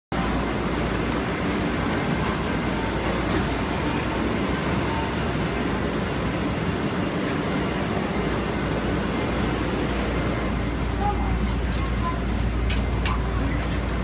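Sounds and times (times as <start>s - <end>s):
passengers bustling: 0.1s - 14.0s
train humming at platform: 0.1s - 14.0s.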